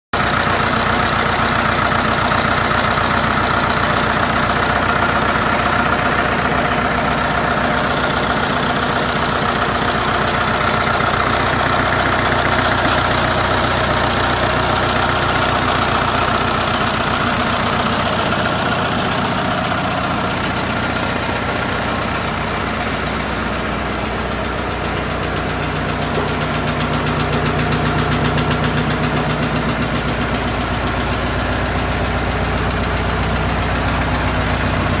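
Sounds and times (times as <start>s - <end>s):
tractor engine idling: 0.1s - 35.0s.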